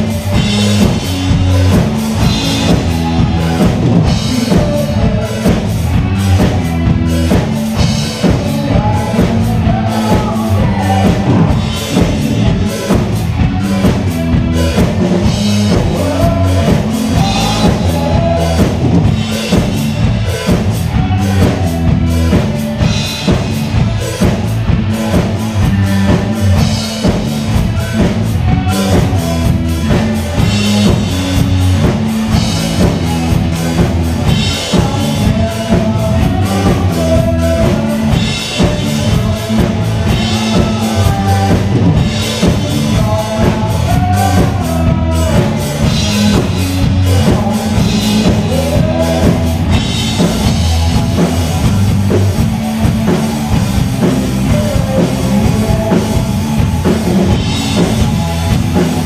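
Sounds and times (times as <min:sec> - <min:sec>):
bass guitar: 0:00.0 - 0:59.0
drum kit rock beat: 0:00.0 - 0:59.0.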